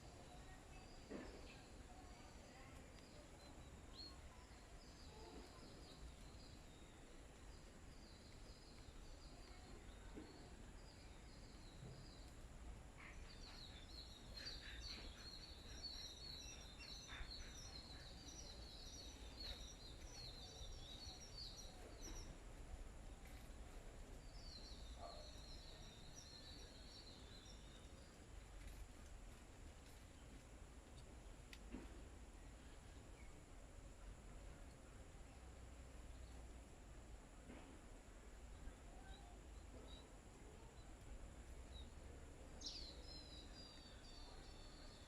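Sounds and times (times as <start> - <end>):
small birds chirping: 0.0 - 36.8, 37.4 - 45.0.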